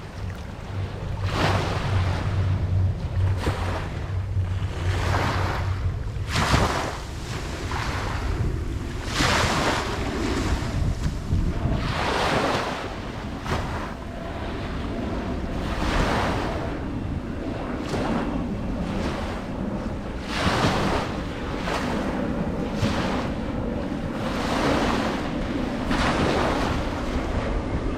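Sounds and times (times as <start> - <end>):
ocean waves breaking: 0.0 - 27.9
wind buffeting microphone: 0.0 - 27.9.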